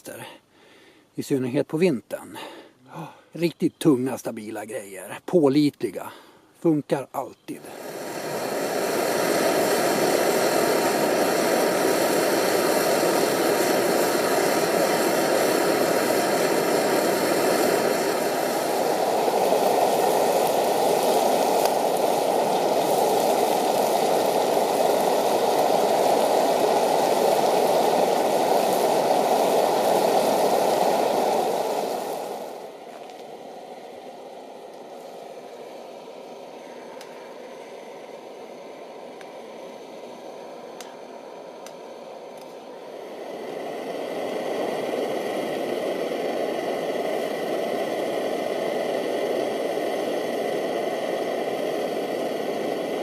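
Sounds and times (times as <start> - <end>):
pressure stove burner roaring: 7.6 - 53.0.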